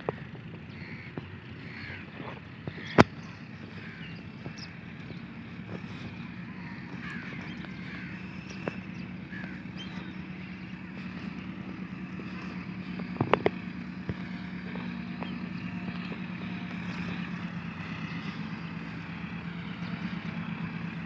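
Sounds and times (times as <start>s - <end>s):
distant tractor engine running: 0.0s - 21.0s.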